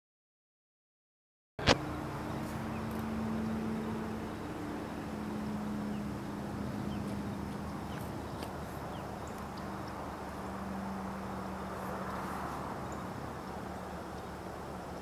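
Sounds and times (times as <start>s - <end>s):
distant engine drone: 1.6s - 15.0s
open-air ambience: 1.6s - 15.0s.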